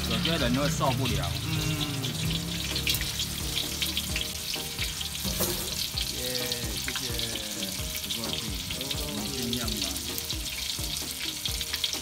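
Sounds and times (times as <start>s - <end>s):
tofu deep-frying in oil: 0.0s - 12.0s.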